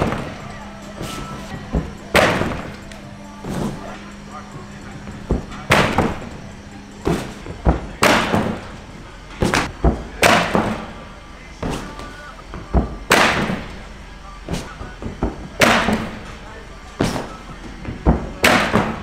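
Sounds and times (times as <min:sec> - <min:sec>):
thuds and bangs in a hall: 0:00.0 - 0:03.9, 0:04.6 - 0:06.4, 0:07.0 - 0:08.8, 0:09.4 - 0:11.0, 0:11.6 - 0:13.8, 0:14.5 - 0:16.4, 0:17.0 - 0:19.0.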